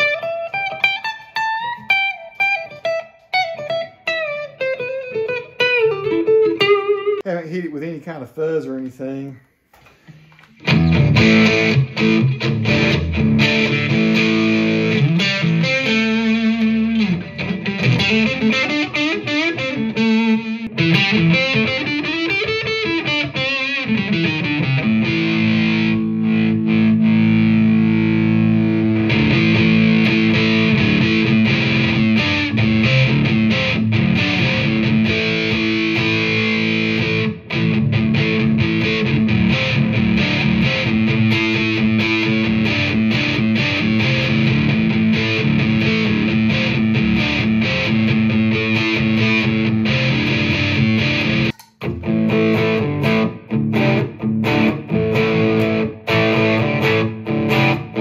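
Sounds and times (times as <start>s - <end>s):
overdriven electric guitar: 0.0s - 7.2s, 9.7s - 58.0s.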